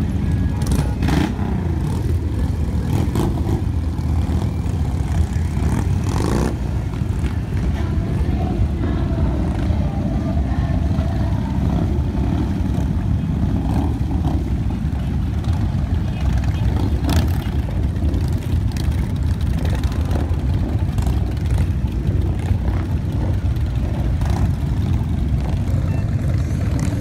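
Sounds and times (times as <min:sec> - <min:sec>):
motorcycles riding past: 0:00.0 - 0:27.0.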